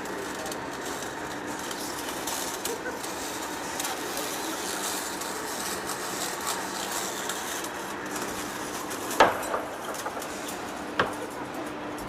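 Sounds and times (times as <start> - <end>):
workshop machinery humming: 0.0 - 12.0.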